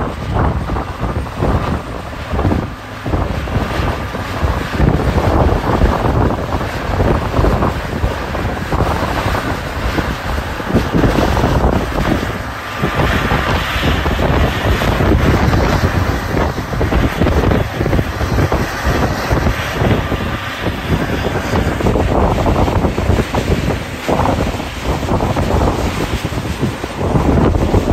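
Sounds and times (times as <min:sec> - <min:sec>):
diesel locomotive running: 0:00.0 - 0:27.9
wind buffeting microphone: 0:00.0 - 0:27.9.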